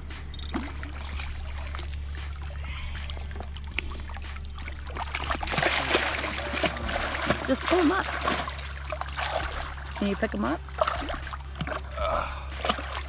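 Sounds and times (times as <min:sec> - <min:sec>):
steady low rumble: 0:00.0 - 0:13.0
water trickling and lapping: 0:00.0 - 0:13.0
fish thrashing and splashing: 0:00.4 - 0:13.0.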